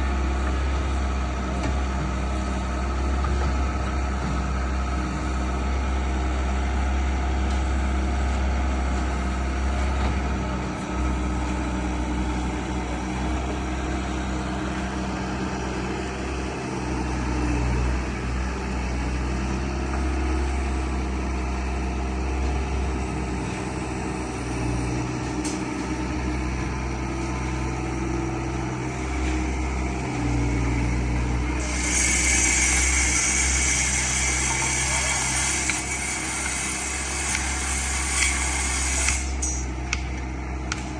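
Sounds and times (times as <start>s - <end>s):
vehicle low rumble: 0.0s - 31.8s, 39.6s - 40.9s.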